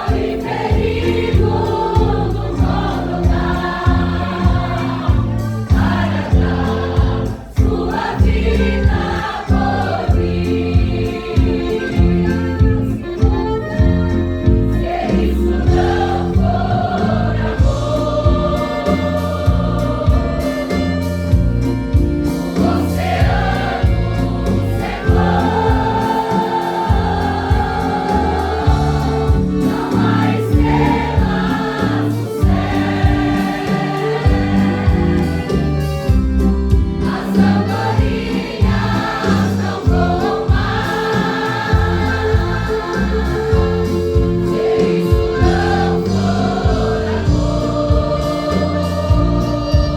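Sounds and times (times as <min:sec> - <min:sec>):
band with steady beat: 0:00.0 - 0:49.9
gospel choir singing: 0:00.0 - 0:49.9.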